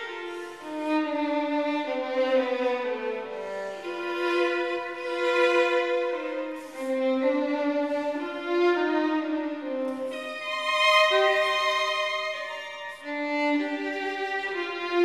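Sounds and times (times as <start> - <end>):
violin playing slow melody: 0.0 - 15.0.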